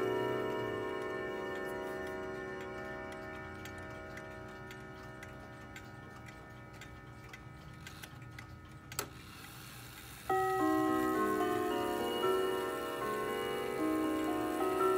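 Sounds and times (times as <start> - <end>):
clock chime ringing: 0.0 - 8.8, 10.1 - 14.9
clock ticking: 0.0 - 14.9.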